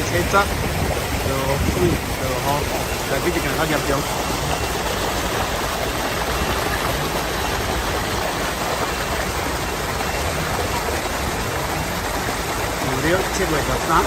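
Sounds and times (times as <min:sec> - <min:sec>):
torrential rain flooding a street: 0:00.0 - 0:14.0.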